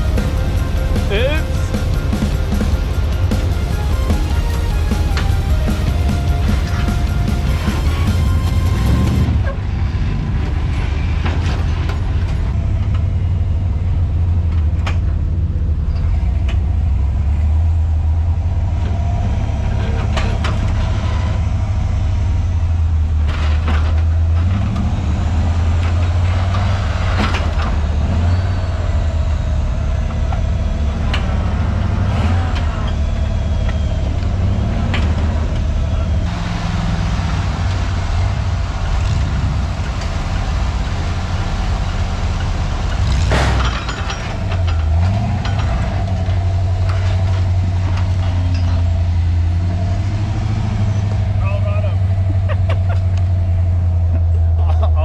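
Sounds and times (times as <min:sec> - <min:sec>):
off-road engines rumbling: 0:00.0 - 0:55.0.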